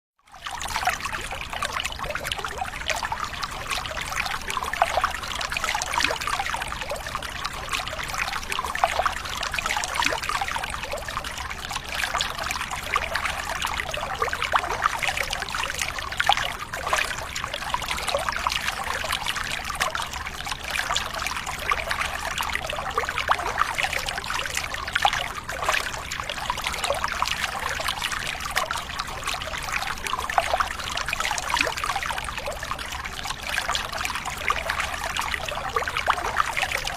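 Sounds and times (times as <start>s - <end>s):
water trickling: 0.3s - 36.9s.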